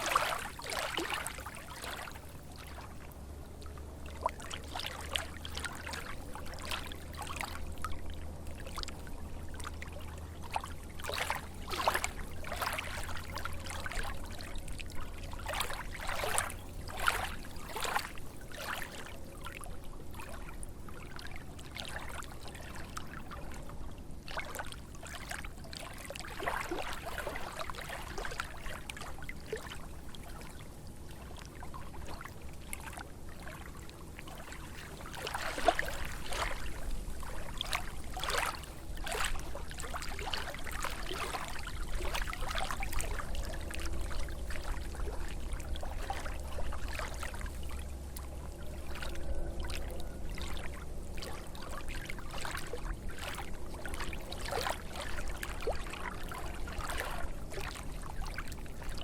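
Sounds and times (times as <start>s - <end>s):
lake waves lapping and splashing: 0.0s - 59.0s.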